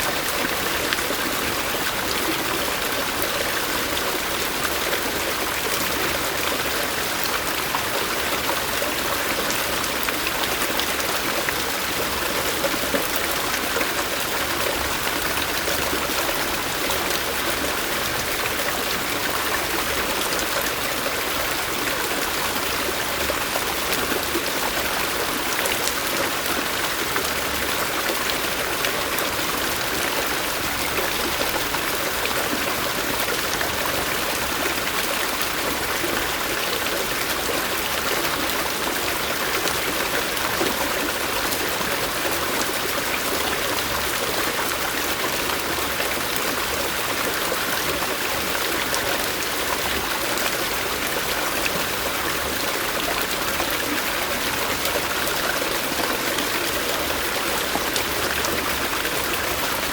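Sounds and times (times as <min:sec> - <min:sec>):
stream of running water: 0:00.0 - 0:59.9.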